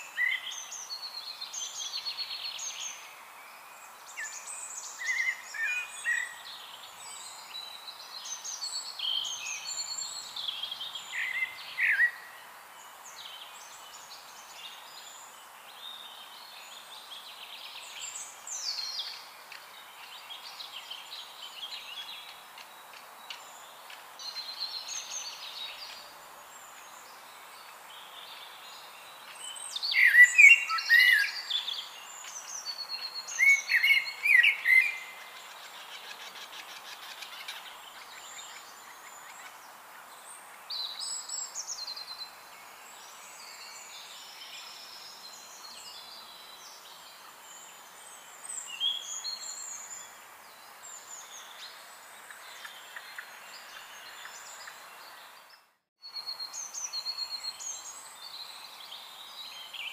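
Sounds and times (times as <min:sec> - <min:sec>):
songbirds singing and chirping: 0:00.0 - 0:59.9
steady faint hiss: 0:00.0 - 0:59.9.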